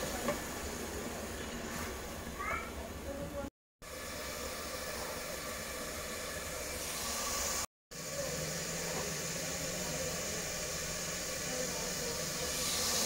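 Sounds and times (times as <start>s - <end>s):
cooking hiss on stove: 0.0s - 3.0s, 3.8s - 13.0s.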